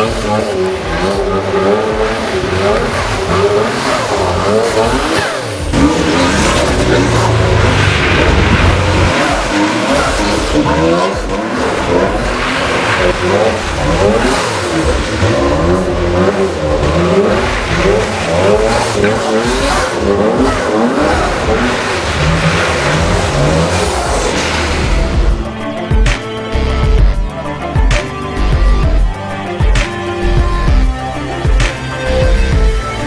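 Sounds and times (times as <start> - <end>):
sports car engine revving: 0.0 - 33.0.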